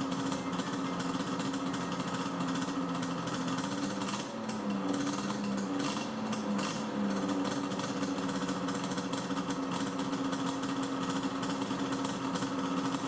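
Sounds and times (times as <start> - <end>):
two-stroke snowmobile engine running: 0.0 - 13.0.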